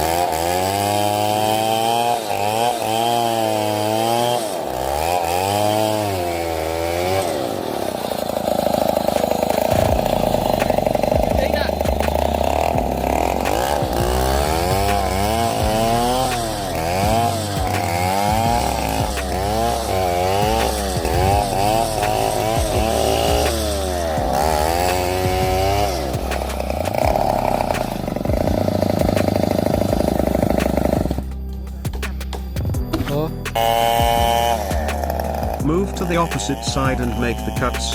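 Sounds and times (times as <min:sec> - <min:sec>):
chainsaw engine revving: 0:00.0 - 0:37.9.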